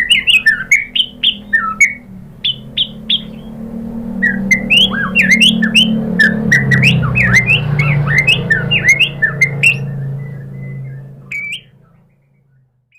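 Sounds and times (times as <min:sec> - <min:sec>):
bird whistling sharp notes: 0:00.0 - 0:03.6, 0:04.2 - 0:12.1
low steady hum: 0:00.0 - 0:12.9.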